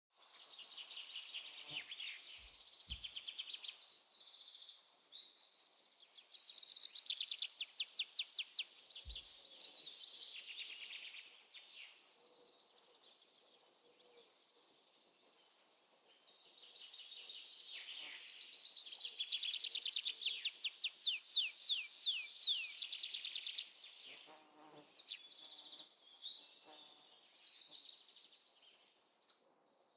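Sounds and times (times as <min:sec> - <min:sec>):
insects droning: 0:00.6 - 0:29.2.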